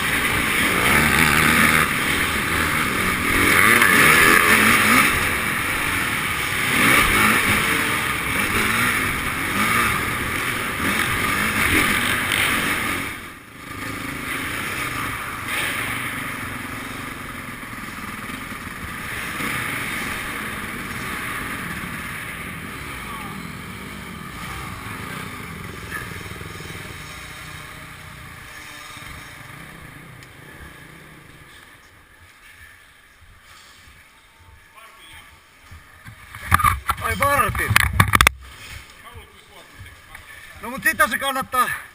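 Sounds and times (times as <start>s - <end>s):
motocross bike engines revving: 0.0s - 34.1s, 35.8s - 41.9s.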